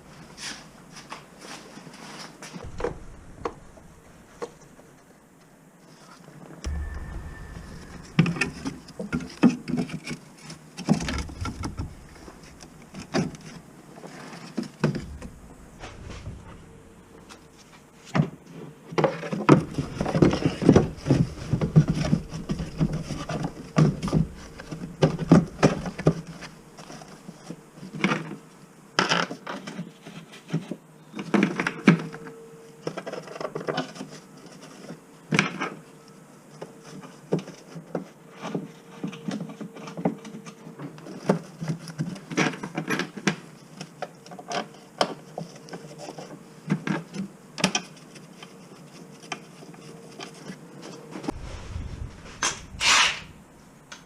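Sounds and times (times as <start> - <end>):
faint steady hum: 2.5 - 54.0.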